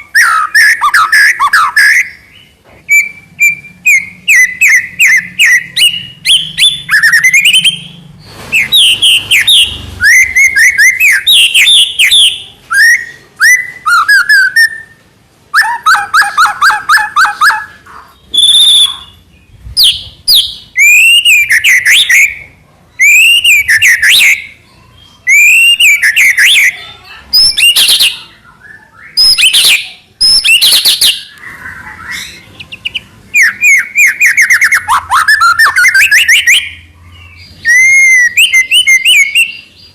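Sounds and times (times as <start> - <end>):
bird singing varied whistles: 0.0 - 7.9, 8.5 - 24.6, 25.2 - 26.8, 27.4 - 39.8.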